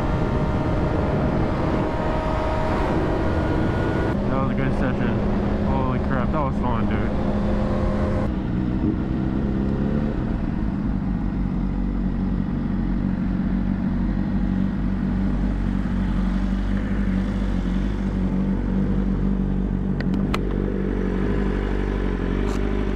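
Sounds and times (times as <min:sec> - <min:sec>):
motorcycle engine running steadily: 0:00.0 - 0:22.9.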